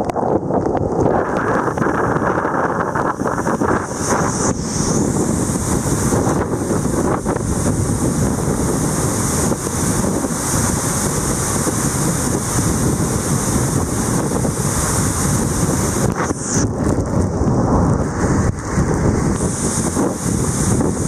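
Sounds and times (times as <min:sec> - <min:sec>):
wind buffeting microphone: 0:00.0 - 0:21.0
waterfall rushing into pool: 0:01.0 - 0:21.0.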